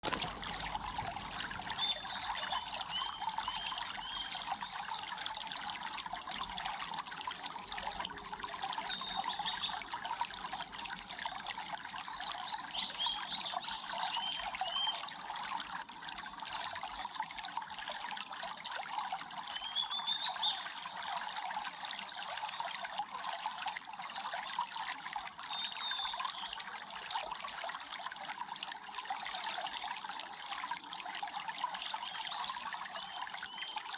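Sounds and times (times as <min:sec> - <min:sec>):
water trickling and splashing: 0:00.0 - 0:33.9.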